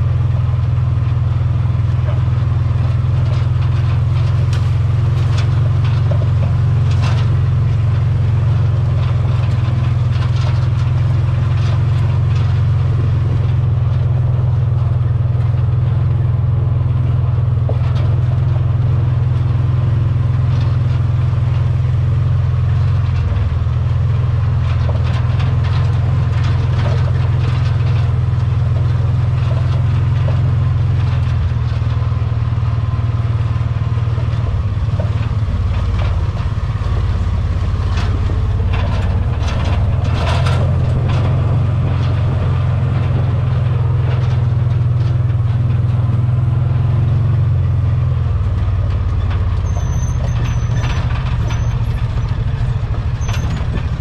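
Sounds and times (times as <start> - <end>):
knocks and rattles: 0.0 - 54.0
utility vehicle engine drone: 0.0 - 54.0.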